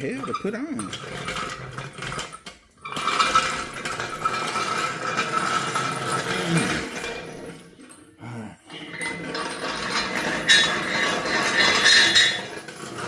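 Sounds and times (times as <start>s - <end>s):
metal tools clinking: 0.0s - 13.0s.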